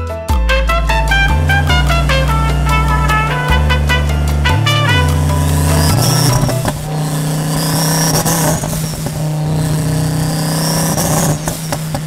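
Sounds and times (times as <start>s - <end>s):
car engine running: 0.7s - 12.0s
tyres on wet road: 0.8s - 12.0s.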